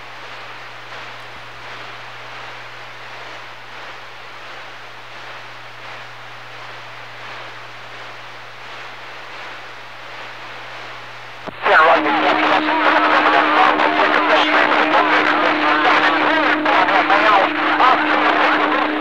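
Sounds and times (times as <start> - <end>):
radio static hiss: 0.0 - 19.0
steady low hum: 0.0 - 19.0.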